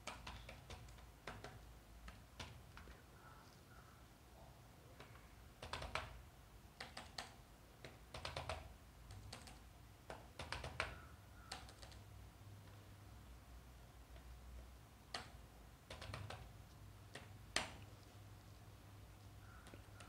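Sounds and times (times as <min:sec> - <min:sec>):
faint keyboard typing: 0:00.0 - 0:03.9, 0:04.9 - 0:12.9, 0:14.0 - 0:20.0.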